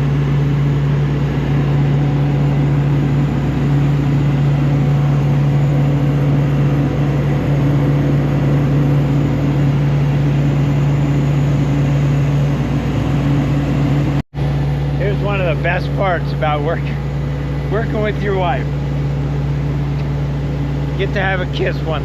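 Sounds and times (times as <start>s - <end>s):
air compressor droning: 0.0s - 22.0s.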